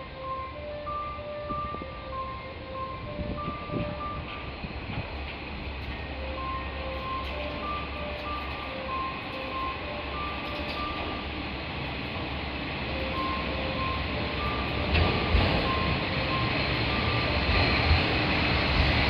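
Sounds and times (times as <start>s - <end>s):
train clunks: 0.0s - 19.0s
train engine and wheel rumble: 0.0s - 19.0s.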